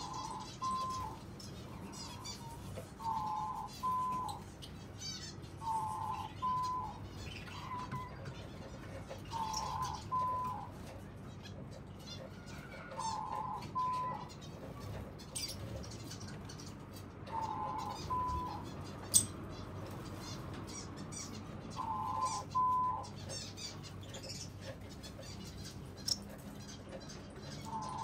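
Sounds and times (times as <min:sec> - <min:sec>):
finches chirping: 0:00.0 - 0:28.0.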